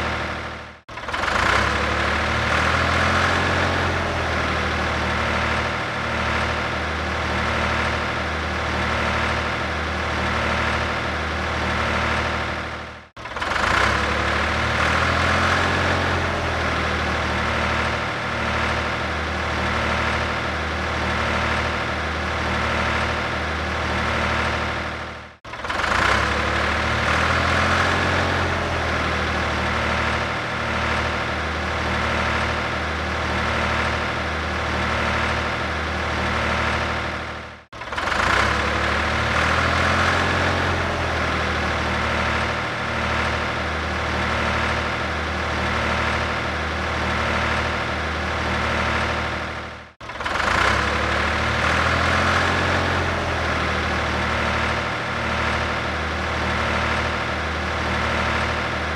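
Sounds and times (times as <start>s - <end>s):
tractor engine idling: 0.0s - 58.9s.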